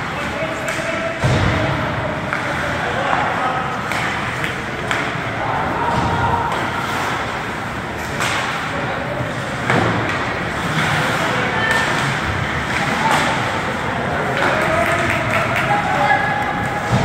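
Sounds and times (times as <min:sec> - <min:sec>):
sticks and puck clacking: 0:00.0 - 0:01.6, 0:02.2 - 0:17.0
skates scraping ice: 0:02.2 - 0:17.0.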